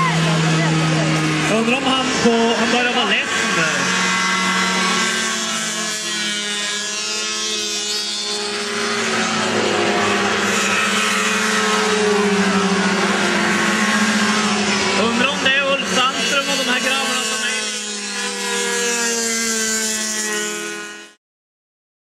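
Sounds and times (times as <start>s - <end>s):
snowmobiles racing past: 0.0s - 21.2s.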